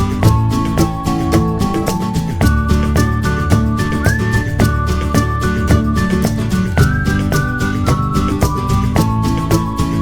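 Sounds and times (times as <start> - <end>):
upbeat music with plucked guitar: 0.0 - 10.0.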